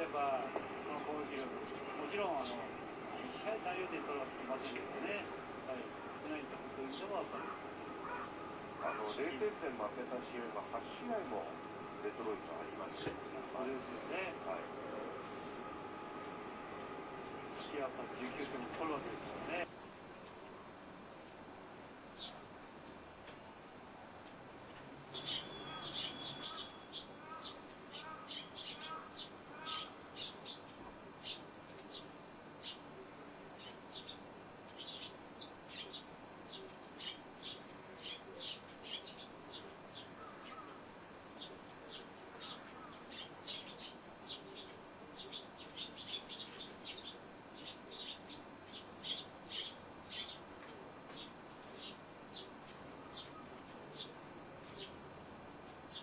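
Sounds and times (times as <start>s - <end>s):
sparrows chirping: 0.0s - 19.6s, 22.1s - 22.5s, 25.1s - 55.1s, 55.8s - 56.0s.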